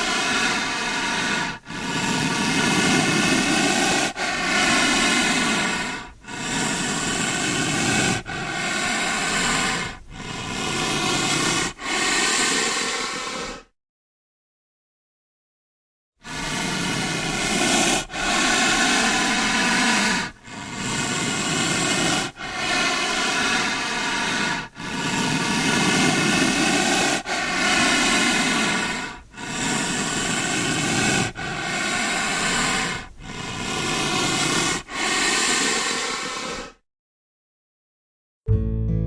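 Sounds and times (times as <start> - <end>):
rhinoceros hissing breaths: 0.0 - 13.7, 16.2 - 36.8.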